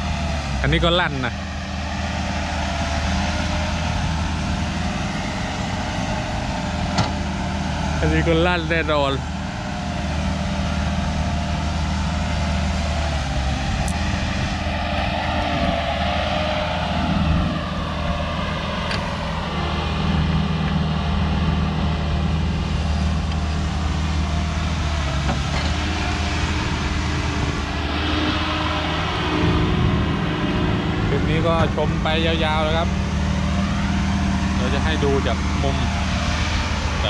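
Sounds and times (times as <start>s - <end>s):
diesel engines droning: 0.0s - 37.0s.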